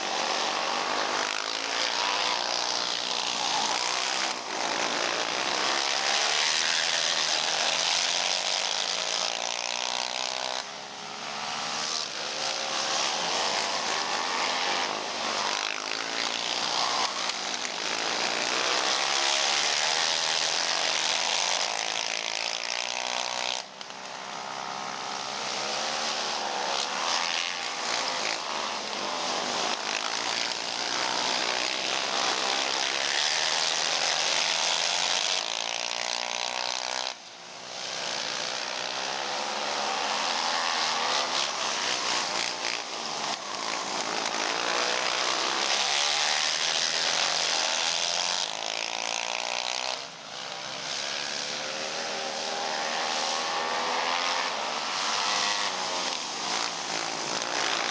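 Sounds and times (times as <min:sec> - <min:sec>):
atv engines revving: 0:00.0 - 0:57.9.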